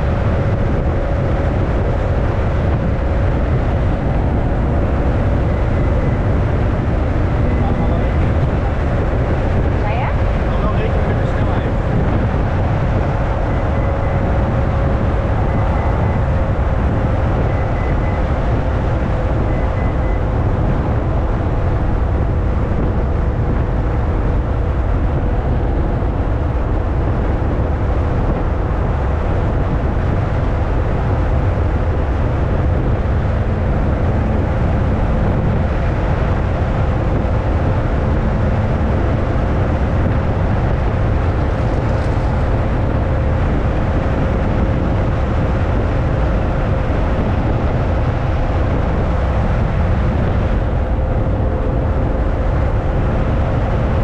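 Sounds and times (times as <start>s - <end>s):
car engine drone: 0.0s - 54.0s
wind noise: 0.0s - 54.0s.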